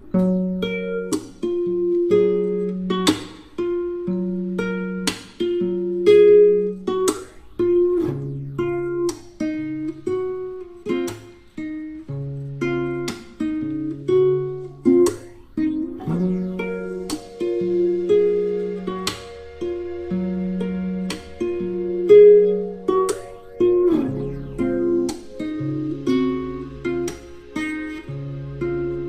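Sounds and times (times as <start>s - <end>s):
acoustic guitar strumming and plucking: 0.0s - 29.0s.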